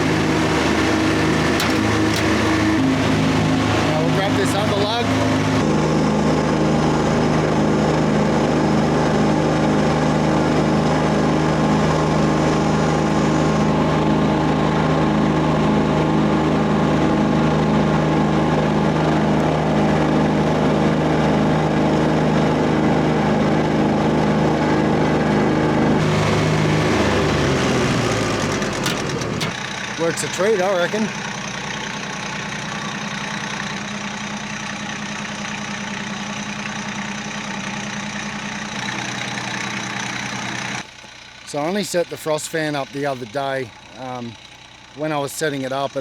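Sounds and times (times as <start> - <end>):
frost fan engine running: 0.0 - 46.0.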